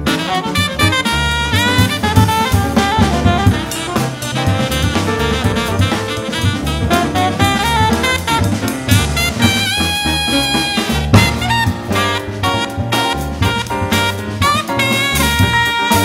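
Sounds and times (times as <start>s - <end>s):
bass line: 0.0s - 16.0s
drum kit: 0.0s - 16.0s
saxophone lines: 0.1s - 16.0s.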